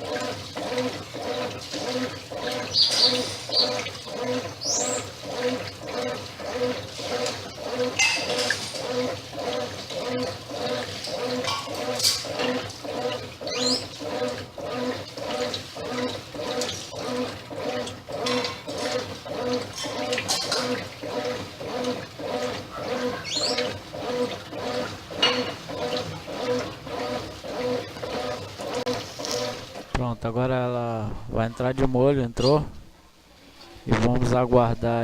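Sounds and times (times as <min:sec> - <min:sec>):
water sloshing in tub: 0:00.0 - 0:30.1
washing machine agitating: 0:00.0 - 0:31.7.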